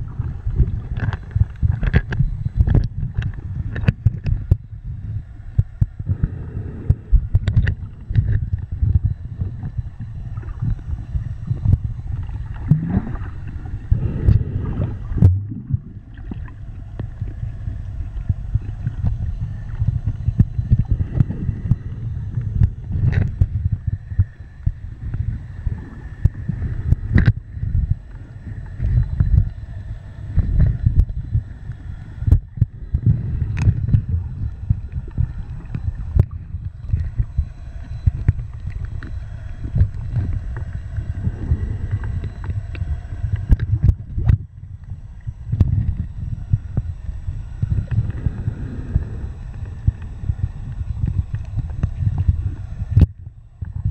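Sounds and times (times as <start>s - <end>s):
underwater rumble of water: 0.0s - 53.9s.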